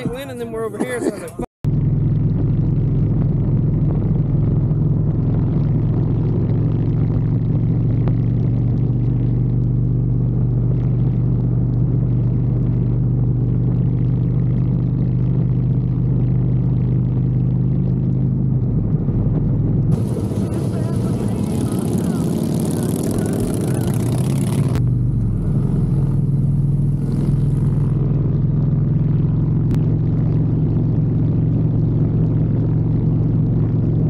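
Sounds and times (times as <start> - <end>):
motorcycle engine cruising: 1.7 - 34.0.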